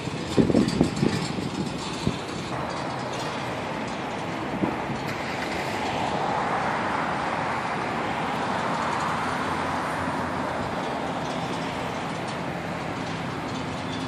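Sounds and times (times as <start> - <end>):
outdoor city noise hiss: 0.0 - 14.0.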